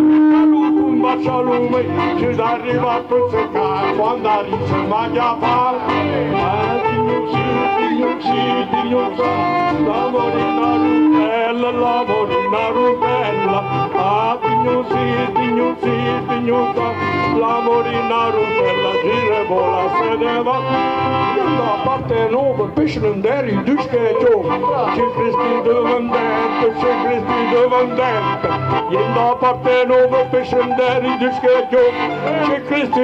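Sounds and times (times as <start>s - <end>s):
accordion: 0.0s - 33.0s
acoustic guitar: 0.0s - 33.0s
steady beat: 0.3s - 31.4s.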